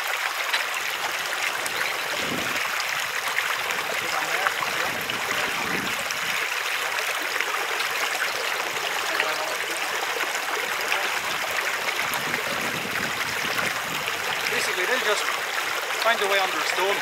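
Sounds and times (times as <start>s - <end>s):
stream babbling over stones: 0.0s - 17.0s.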